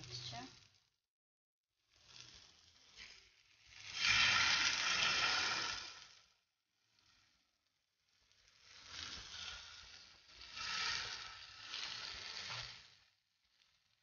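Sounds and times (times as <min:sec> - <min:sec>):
vegetable mixture sizzling in oil: 0:00.0 - 0:00.8, 0:02.0 - 0:14.0.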